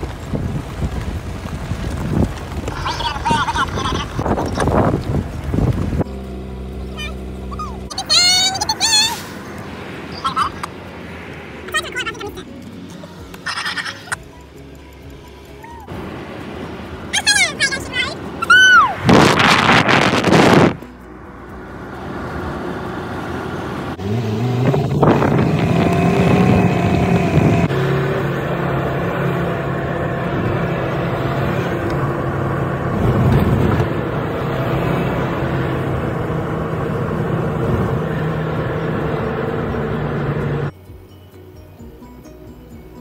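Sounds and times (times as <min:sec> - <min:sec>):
car engine accelerating: 0:00.0 - 0:40.7
road noise inside car: 0:00.0 - 0:41.6.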